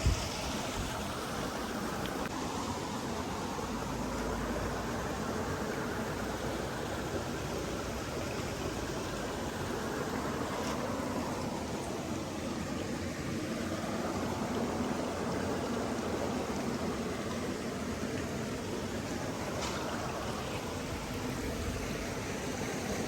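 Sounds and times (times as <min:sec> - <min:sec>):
water flowing: 0:00.0 - 0:23.0.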